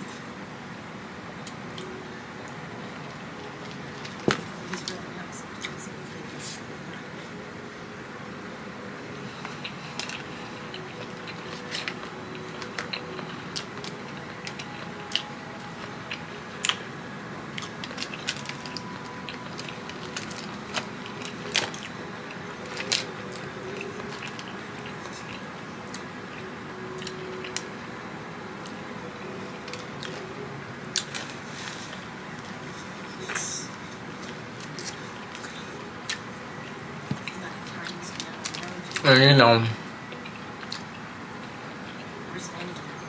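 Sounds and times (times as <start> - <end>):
low background noise: 0.0 - 43.0.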